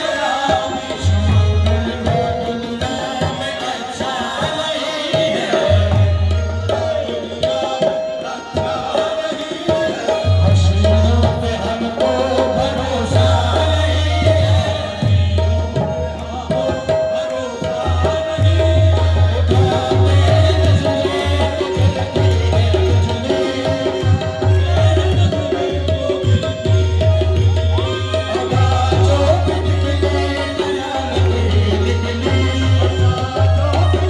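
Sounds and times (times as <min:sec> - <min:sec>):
harmonium drone: 0:00.0 - 0:34.0
men singing: 0:00.0 - 0:34.0
tabla drumming: 0:00.0 - 0:34.0.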